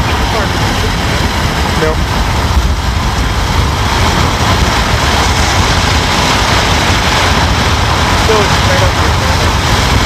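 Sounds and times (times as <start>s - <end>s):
car interior road and engine noise: 0.0s - 10.0s
wind and tyre hiss: 0.0s - 10.0s.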